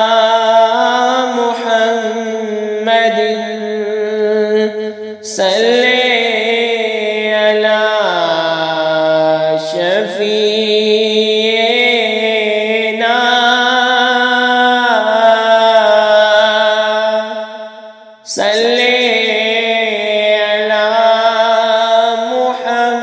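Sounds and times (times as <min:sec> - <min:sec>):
person chanting long held notes: 0:00.0 - 0:23.0.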